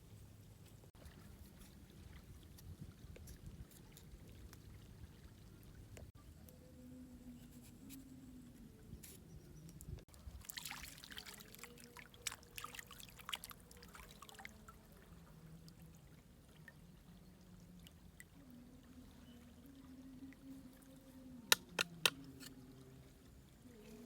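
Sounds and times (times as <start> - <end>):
trickling water: 0.1 - 6.2, 9.9 - 24.0
small splashes and crackles: 0.6 - 6.2, 9.7 - 24.0.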